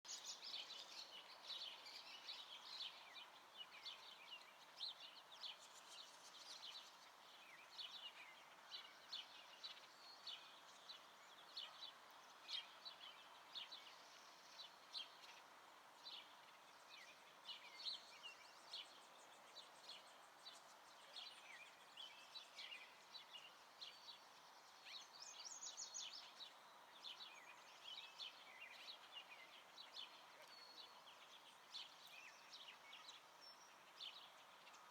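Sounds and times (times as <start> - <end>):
faint background hiss: 0.1 - 34.9
songbirds chirping and singing: 0.1 - 34.9.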